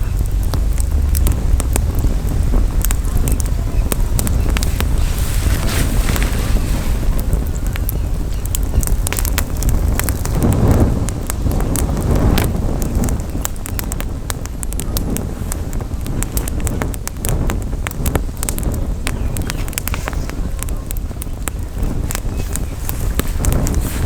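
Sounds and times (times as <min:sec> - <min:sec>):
campfire crackling: 0:00.0 - 0:24.0
wind rumble on microphone: 0:00.0 - 0:24.0.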